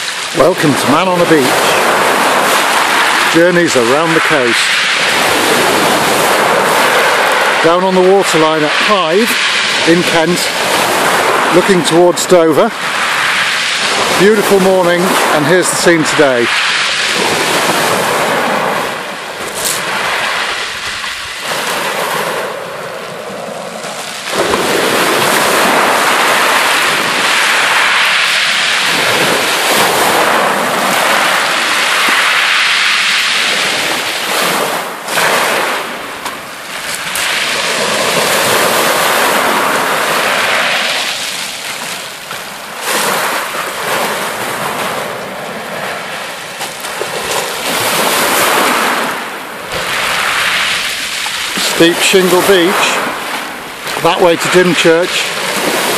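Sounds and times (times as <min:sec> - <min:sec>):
waves breaking on shingle: 0:00.0 - 0:55.9.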